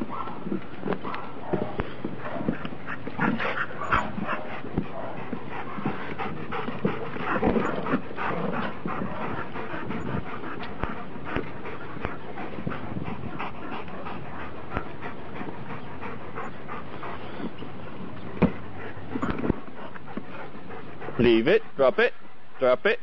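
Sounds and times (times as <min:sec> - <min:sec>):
dogs whining: 0:00.0 - 0:21.2
dogs panting: 0:00.0 - 0:23.0.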